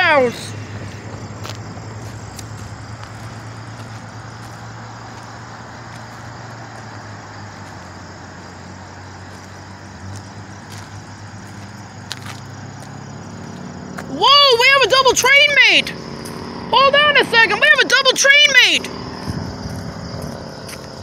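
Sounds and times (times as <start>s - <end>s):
outdoor noise: 0.0s - 21.0s
vehicle engine humming: 0.0s - 21.0s.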